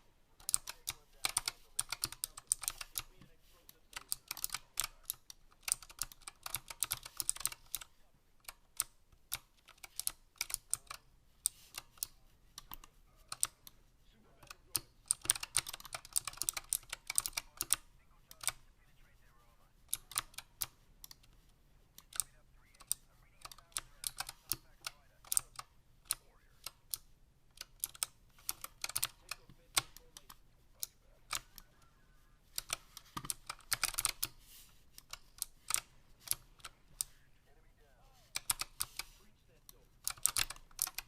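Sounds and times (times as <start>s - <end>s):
keyboard typing: 0.0s - 41.0s.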